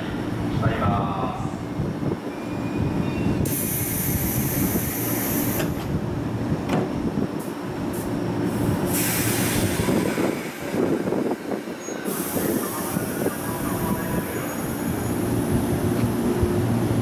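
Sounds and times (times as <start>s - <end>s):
low rumble of trains: 0.0s - 17.0s.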